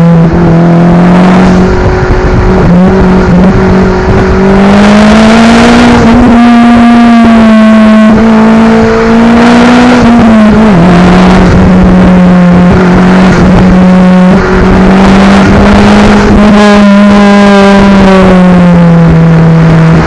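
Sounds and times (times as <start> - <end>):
car engine exhaust drone: 0.0 - 20.0.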